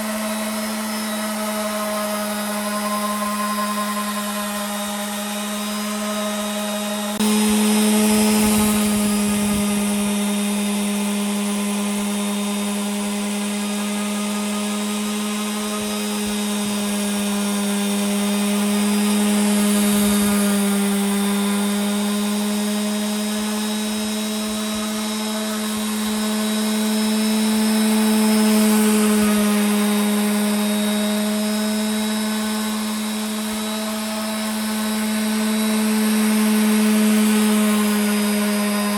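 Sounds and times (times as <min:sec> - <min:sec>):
electric power tool motor running: 0:00.0 - 0:38.9.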